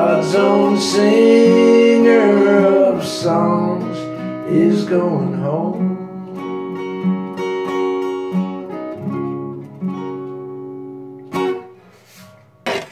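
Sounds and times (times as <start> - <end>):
acoustic guitar chords: 0.0 - 12.9.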